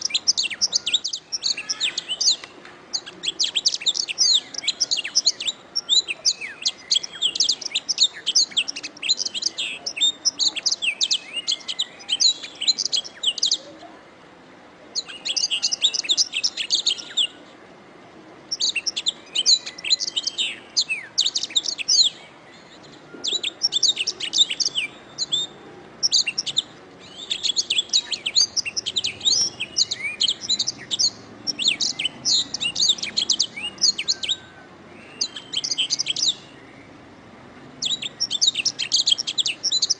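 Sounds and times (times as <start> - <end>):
canary singing: 0.0 - 13.9, 14.9 - 17.5, 18.5 - 39.9.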